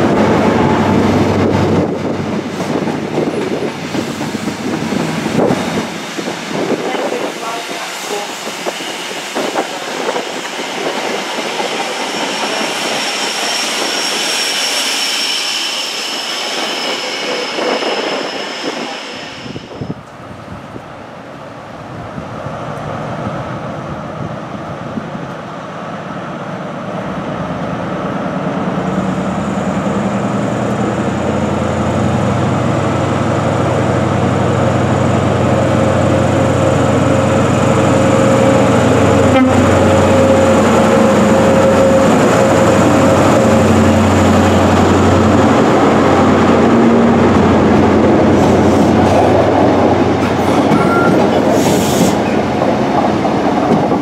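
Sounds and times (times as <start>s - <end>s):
train coaches running past: 0.0s - 54.0s
train diesel engine: 0.0s - 54.0s.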